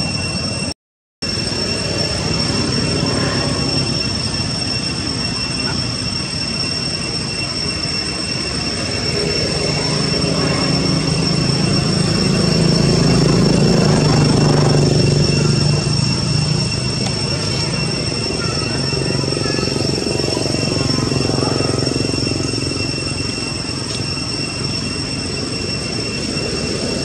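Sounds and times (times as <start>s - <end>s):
high-pitched whine: 0.0s - 27.0s
low motor vehicle drone: 1.3s - 27.0s.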